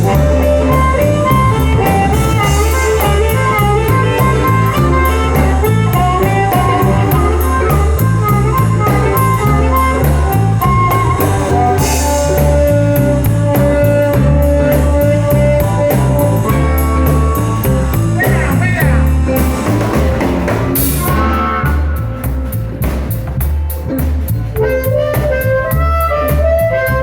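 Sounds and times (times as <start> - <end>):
blues band playing: 0.0 - 27.0
electric guitar: 0.0 - 27.0.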